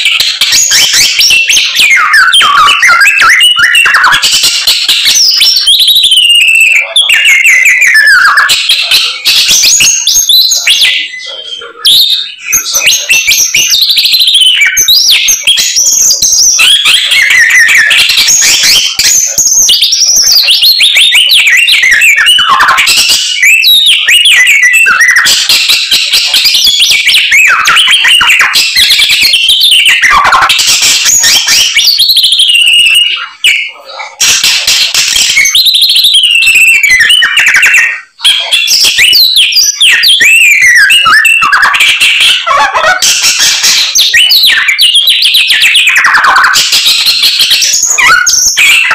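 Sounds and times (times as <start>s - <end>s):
songbird singing varied phrases: 0.0s - 48.9s.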